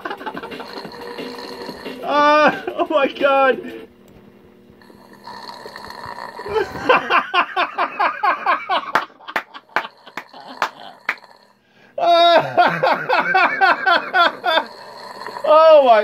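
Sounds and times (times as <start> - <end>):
man snoring with rattle: 0.0 - 2.7, 4.8 - 8.8, 9.5 - 16.0.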